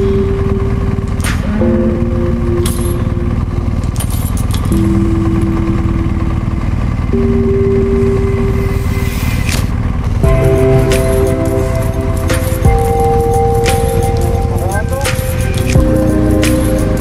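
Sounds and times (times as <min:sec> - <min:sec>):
background music of held chords: 0:00.0 - 0:17.0
motorcycle engine rumble: 0:00.0 - 0:17.0.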